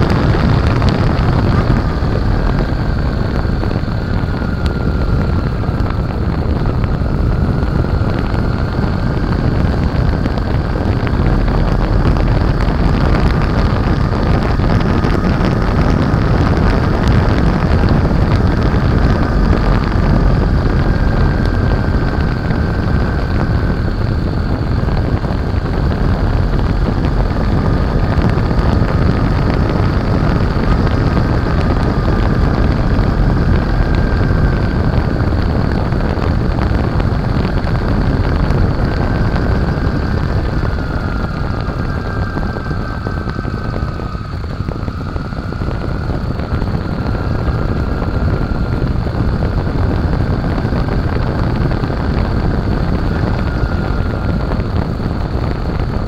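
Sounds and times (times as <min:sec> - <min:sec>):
motorcycle engine running: 0:00.0 - 0:56.0
wind rush: 0:00.0 - 0:56.0.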